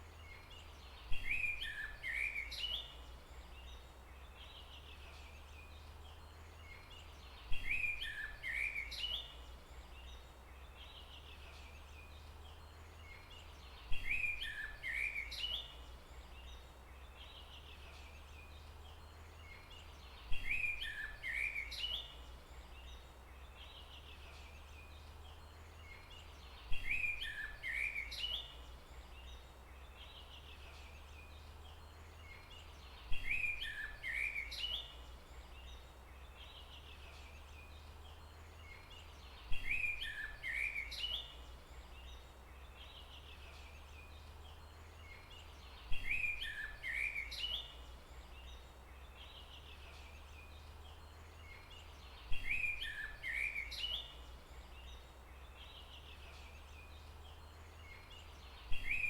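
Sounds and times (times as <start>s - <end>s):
songbird chirping phrase: 0.0s - 59.0s.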